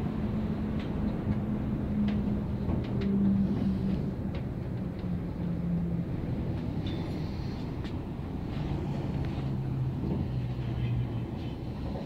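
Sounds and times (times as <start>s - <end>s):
cable car rumble and hum: 0.0s - 12.0s.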